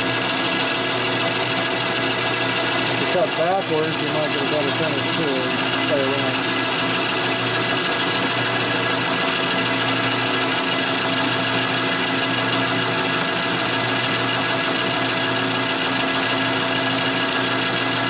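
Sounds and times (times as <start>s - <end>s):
metal lathe cutting: 0.0s - 18.0s.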